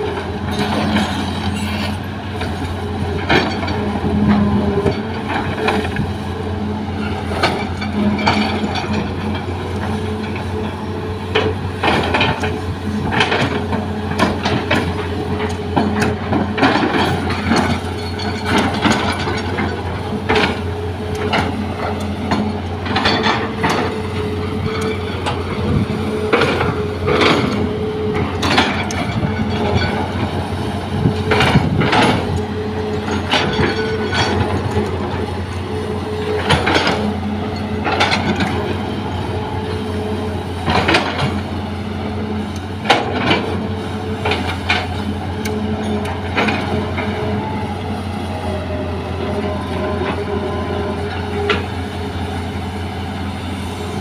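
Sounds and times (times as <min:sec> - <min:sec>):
excavator diesel engine drone: 0:00.0 - 0:54.0.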